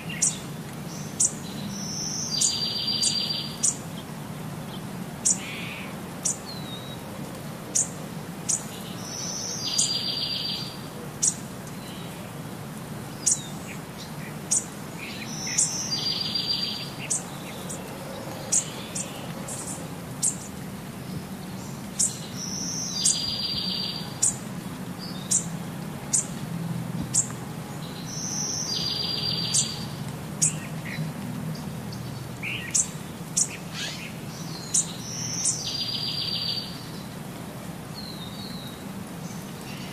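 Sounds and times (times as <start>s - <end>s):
birds chirping: 0.0s - 12.4s, 13.0s - 37.2s, 37.9s - 39.9s.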